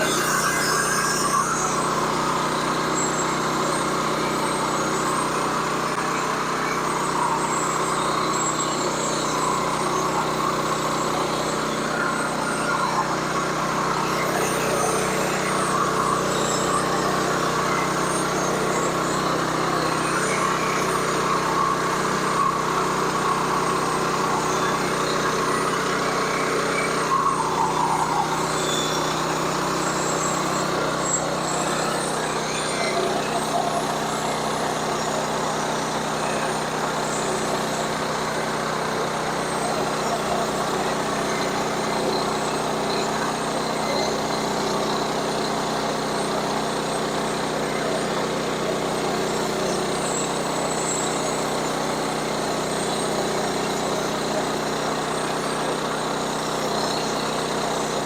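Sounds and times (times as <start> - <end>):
sawmill cutting log: 0.0 - 58.0.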